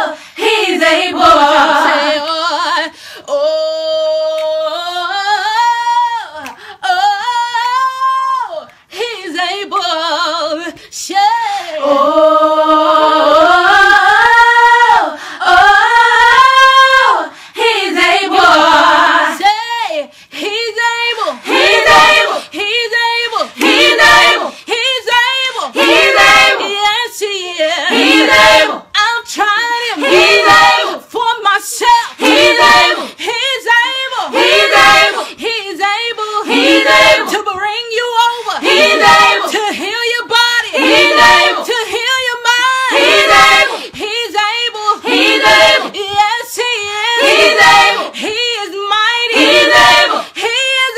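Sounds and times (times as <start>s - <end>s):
layered a cappella gospel singing: 0.0s - 50.9s.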